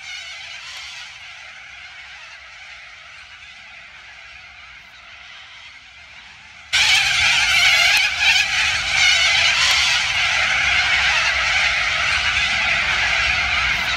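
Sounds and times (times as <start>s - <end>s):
flock of birds screeching: 0.0s - 13.9s.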